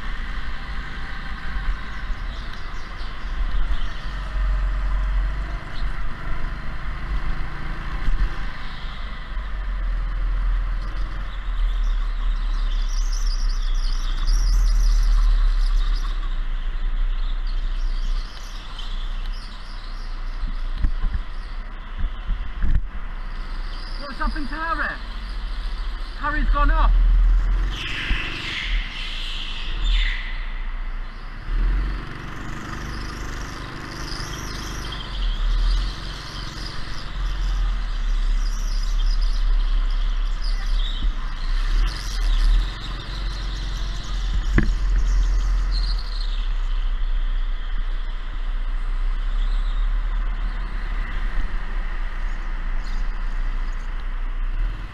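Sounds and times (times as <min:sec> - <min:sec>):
go-kart motor and tyres: 0:00.0 - 0:54.9.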